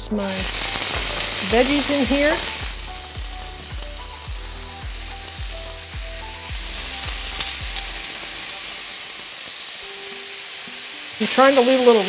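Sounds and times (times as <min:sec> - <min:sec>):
soft background music: 0:00.0 - 0:12.0
vegetables sizzling in oil: 0:00.0 - 0:12.0.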